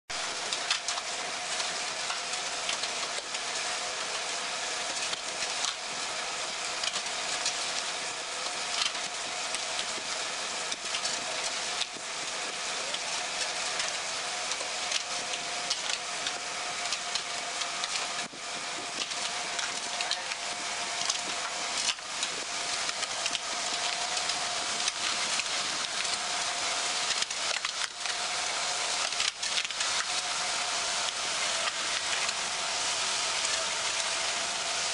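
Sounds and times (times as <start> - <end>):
mixer drive hum: 0.1 - 34.9
mixer paddles scraping mix: 0.1 - 34.9.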